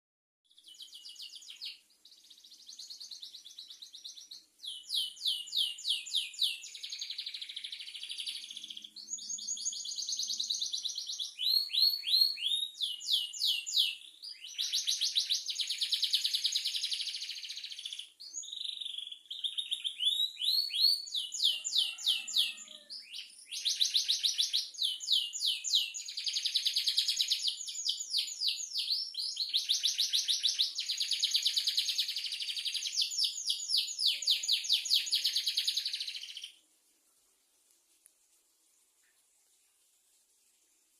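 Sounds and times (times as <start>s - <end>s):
canary singing trills: 0.5s - 36.6s.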